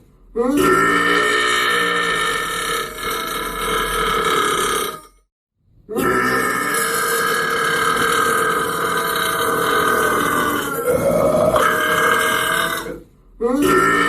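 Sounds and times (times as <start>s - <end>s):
man burping: 0.4s - 5.1s, 5.9s - 14.0s.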